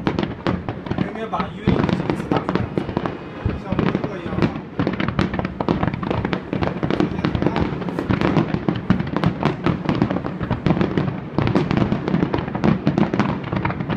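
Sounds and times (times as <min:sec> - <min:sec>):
fireworks bangs and crackling: 0:00.0 - 0:13.9.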